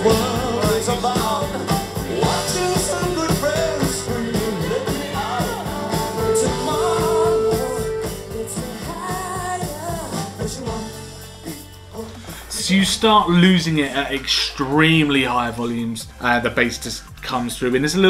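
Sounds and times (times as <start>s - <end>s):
rock song over a speaker: 0.0s - 18.0s.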